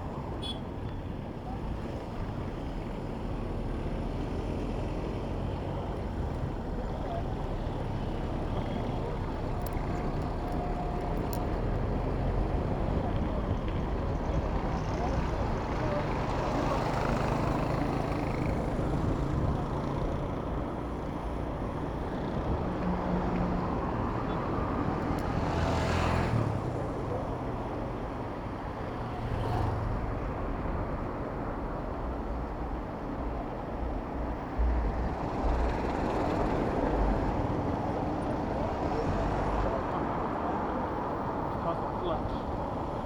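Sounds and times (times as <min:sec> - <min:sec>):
steady traffic rumble: 0:00.0 - 0:43.0
vehicles passing: 0:00.0 - 0:43.0.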